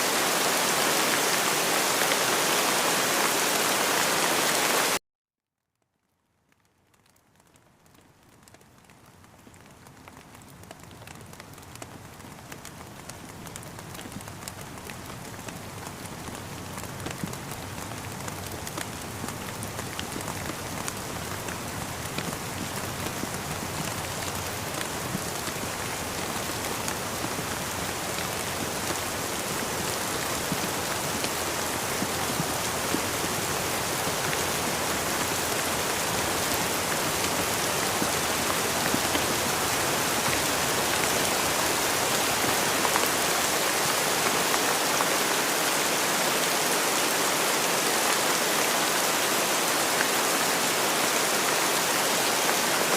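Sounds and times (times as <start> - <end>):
rain falling: 0.0 - 5.0, 6.0 - 52.9.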